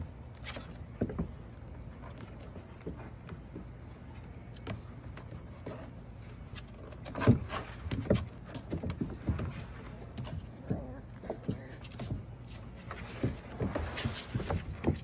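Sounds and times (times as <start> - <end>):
puppy claws scrabbling on plastic: 0.3 - 15.0.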